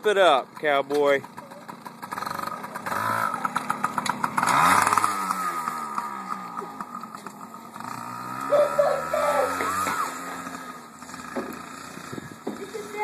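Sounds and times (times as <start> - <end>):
dirt bike engine revving: 0.1 - 13.0.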